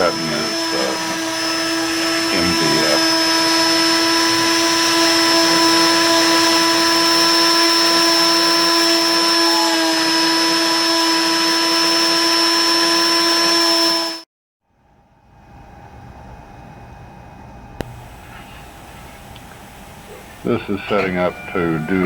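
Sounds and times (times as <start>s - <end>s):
hiss of cutting: 0.0s - 13.6s, 17.8s - 22.0s
router spindle whine: 0.0s - 14.2s, 17.8s - 22.0s.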